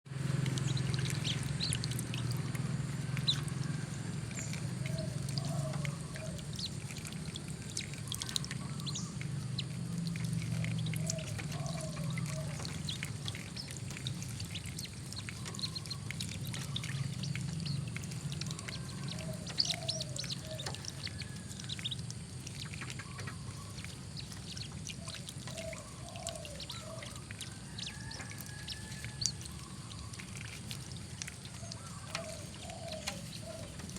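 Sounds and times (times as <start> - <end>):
water splashing and trickling: 0.0 - 33.9
steady low hum: 0.1 - 33.9.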